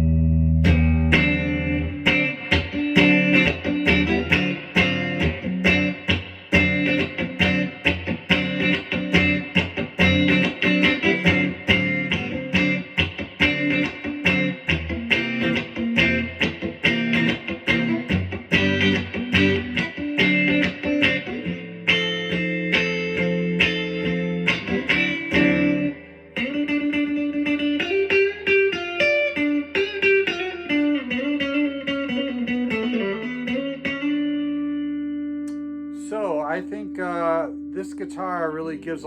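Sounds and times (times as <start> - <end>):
electric guitar through amp: 0.0 - 39.0.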